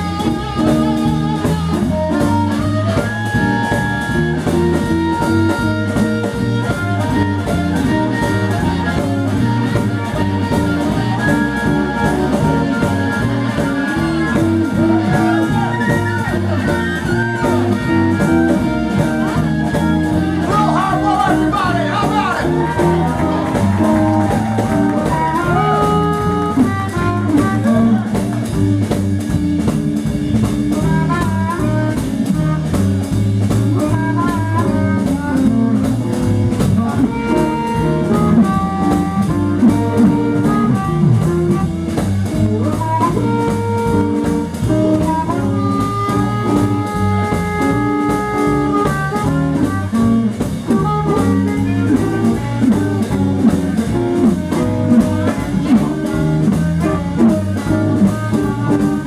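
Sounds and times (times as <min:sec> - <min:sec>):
amplified harmonica: 0:00.0 - 0:29.5, 0:30.2 - 0:59.0
bass: 0:00.0 - 0:59.0
drums: 0:00.0 - 0:59.0
electric guitar: 0:00.0 - 0:59.0.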